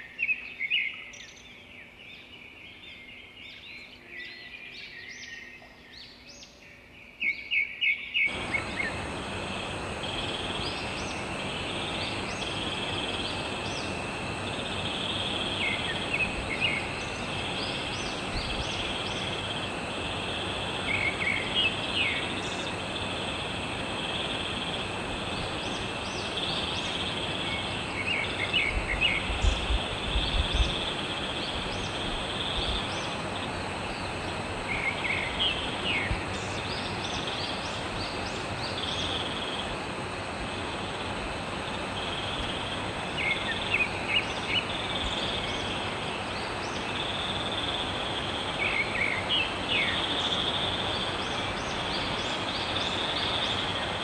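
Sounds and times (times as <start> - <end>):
evenly spaced bird calls: 0.0 - 54.0
birds chirping: 7.3 - 54.0
constant high drone: 8.2 - 54.0
steady hiss: 8.3 - 54.0.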